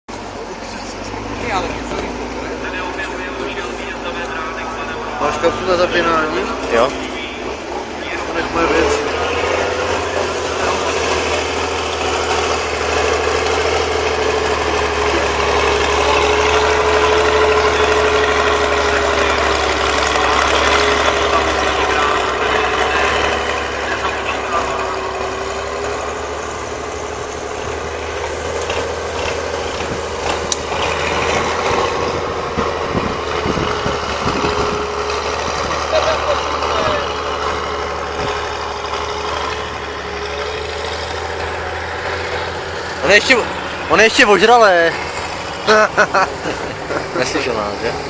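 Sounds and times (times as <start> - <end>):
diesel truck engine running: 0.1 - 48.0.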